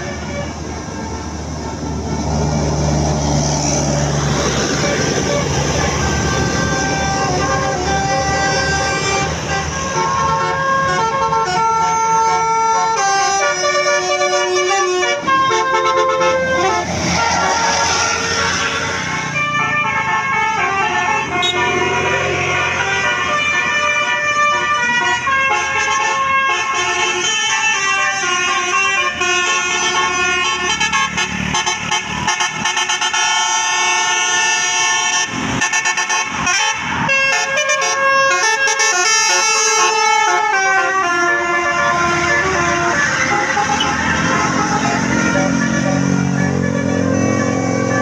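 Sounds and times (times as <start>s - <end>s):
multi-tone bus horn melody: 0.0s - 48.0s.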